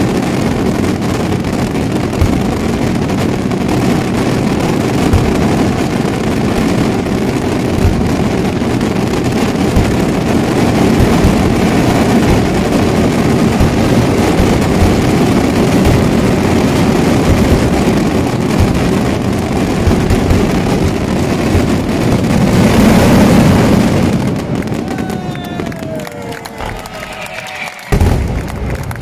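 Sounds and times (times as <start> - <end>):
fireworks salute bombs barrage: 0.0 - 29.0.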